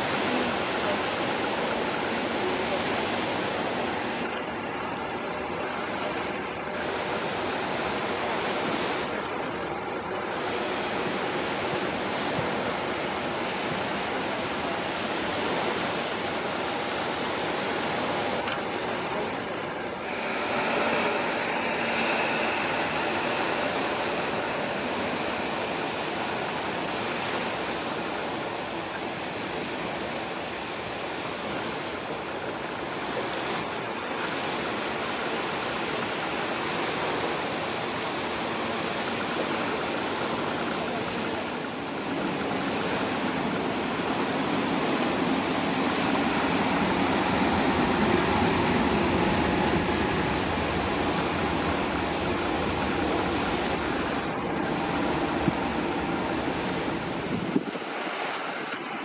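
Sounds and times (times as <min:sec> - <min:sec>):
jet engines rushing: 0:00.0 - 0:36.6, 0:38.8 - 0:59.0
faint high engine whine: 0:00.0 - 0:59.0.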